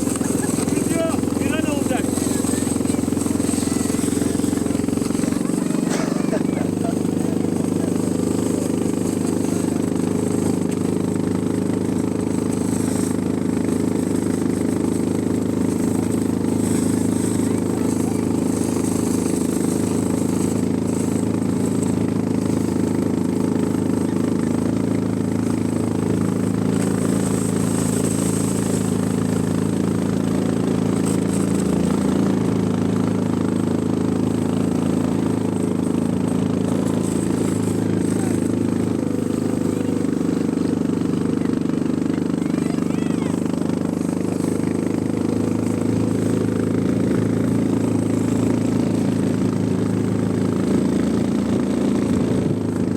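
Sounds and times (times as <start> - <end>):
engine running steadily: 0.0 - 52.9.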